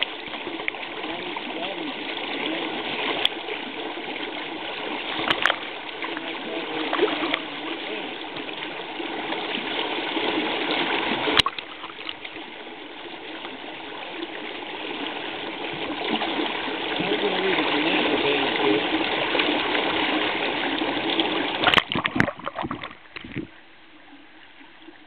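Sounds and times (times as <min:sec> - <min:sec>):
river water rushing over rocks: 0:00.0 - 0:23.4.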